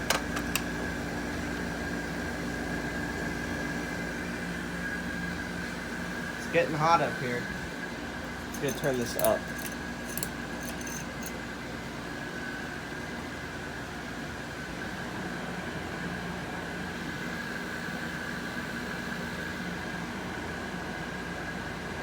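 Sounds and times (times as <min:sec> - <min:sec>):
air conditioner running: 0:00.0 - 0:22.0.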